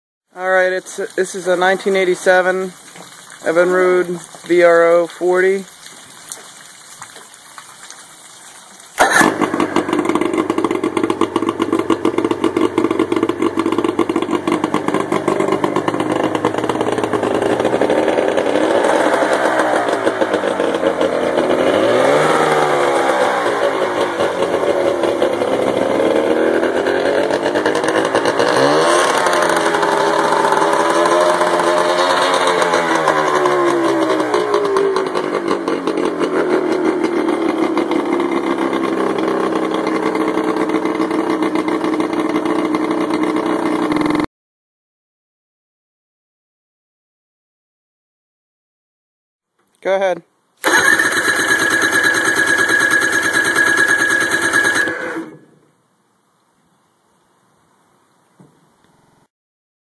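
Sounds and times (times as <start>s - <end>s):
outboard motor starting and running: 0.4s - 44.3s, 50.6s - 55.6s.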